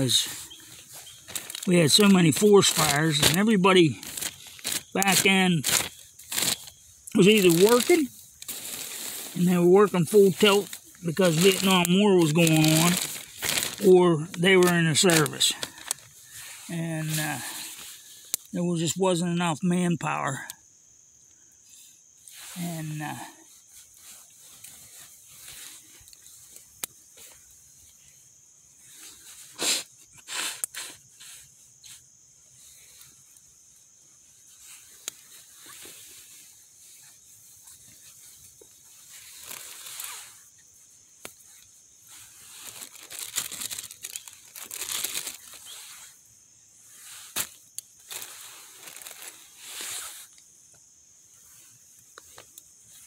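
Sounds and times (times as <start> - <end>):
soft rushing hiss: 0.0 - 53.0.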